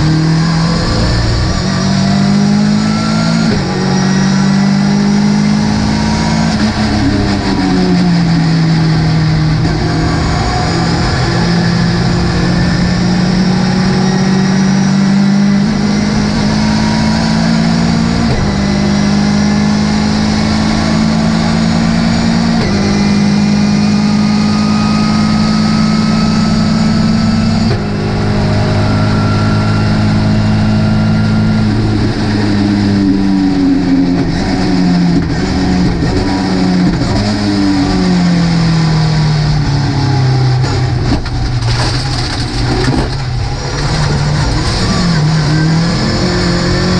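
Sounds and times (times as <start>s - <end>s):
race car engine changing gear: 0.2s - 46.9s.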